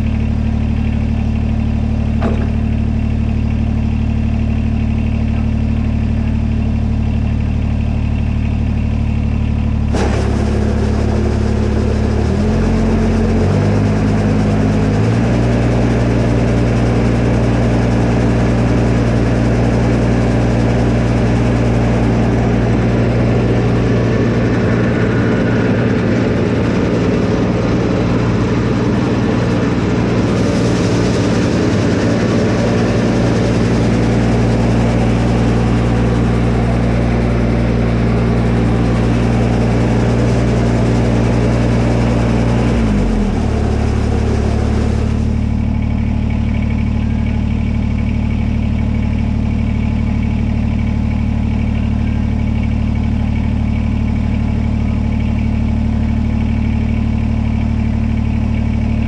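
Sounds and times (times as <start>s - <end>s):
tractor diesel engine: 0.0s - 59.0s.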